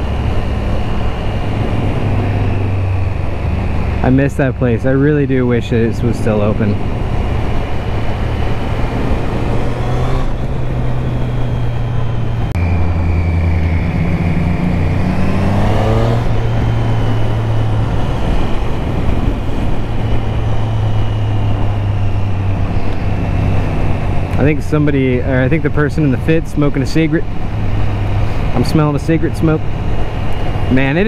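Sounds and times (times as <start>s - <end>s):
motorcycle engine running: 0.0s - 31.0s
wind noise: 0.0s - 31.0s.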